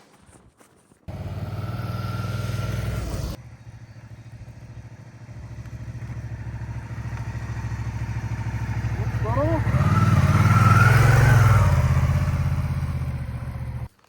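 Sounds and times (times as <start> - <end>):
motorcycle engine running: 1.1 - 13.9.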